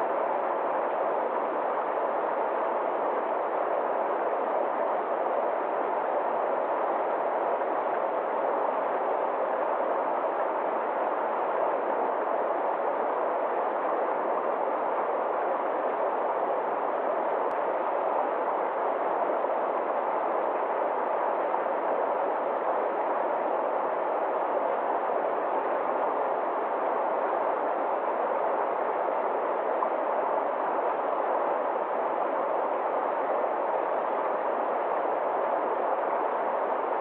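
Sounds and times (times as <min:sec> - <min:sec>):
stream rushing over rocks: 0:00.0 - 0:37.0.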